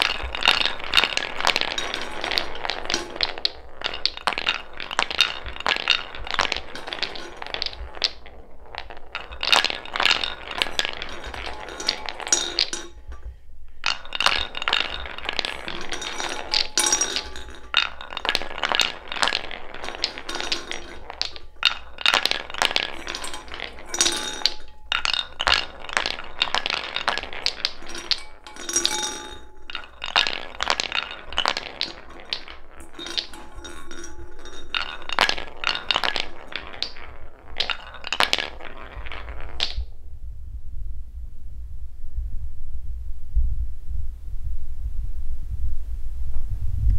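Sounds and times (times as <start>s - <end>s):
wooden balls clattering on track: 0.0s - 40.0s.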